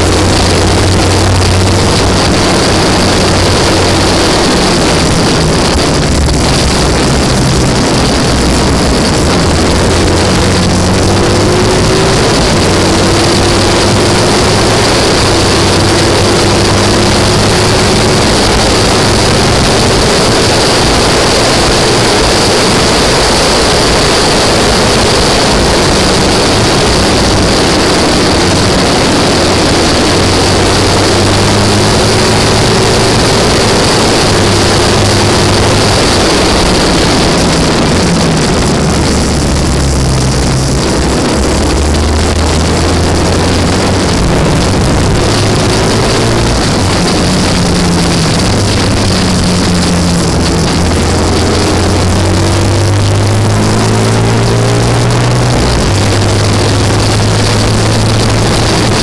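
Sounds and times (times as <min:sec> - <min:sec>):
engine running hard at speed: 0:00.0 - 0:59.0
wind rush on microphone: 0:00.0 - 0:59.0.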